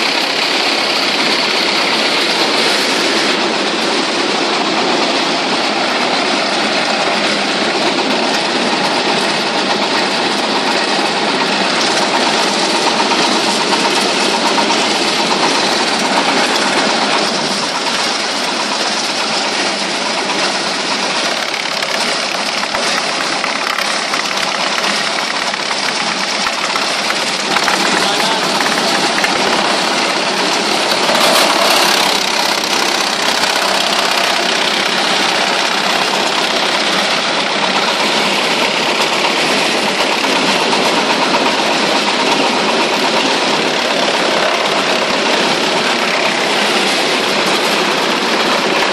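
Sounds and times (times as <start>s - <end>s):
wood chipper running: 0.0s - 48.9s.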